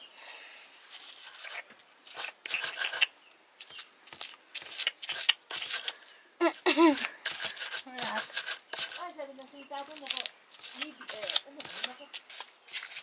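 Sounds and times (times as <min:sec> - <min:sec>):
stone grinding and crushing: 0:00.9 - 0:06.0, 0:06.7 - 0:09.0, 0:09.8 - 0:13.0.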